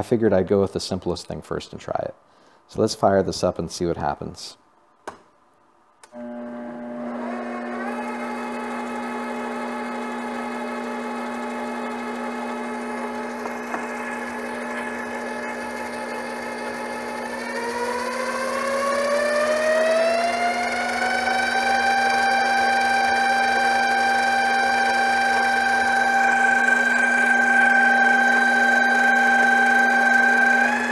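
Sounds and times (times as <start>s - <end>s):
lathe spindle whine: 6.2s - 30.9s.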